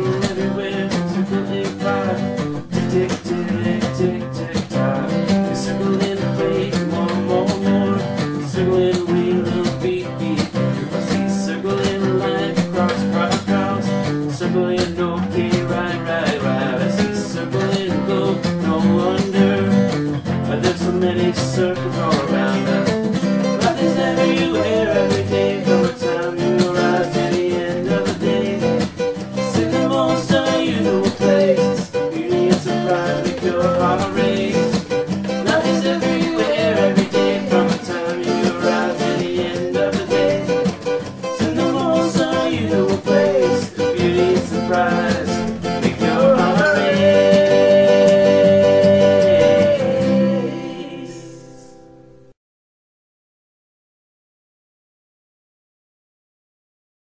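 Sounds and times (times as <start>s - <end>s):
strummed acoustic guitar: 0.0s - 52.3s.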